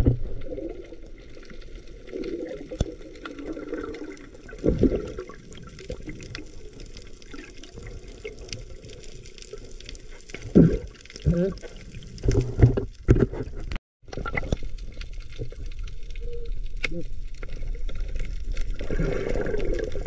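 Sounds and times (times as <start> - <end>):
water gushing: 0.0 - 12.8, 14.1 - 20.0
muffled underwater wash: 0.0 - 20.0.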